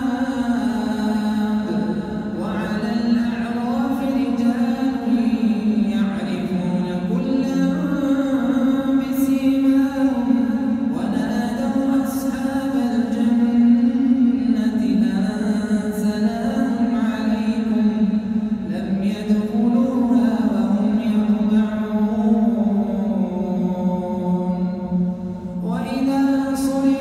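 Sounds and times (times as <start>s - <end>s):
man chanting melodic recitation: 0.0s - 27.0s.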